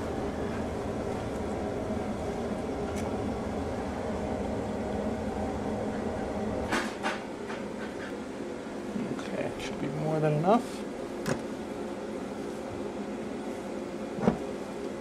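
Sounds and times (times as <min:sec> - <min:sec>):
mechanical hum of room: 0:00.0 - 0:15.0.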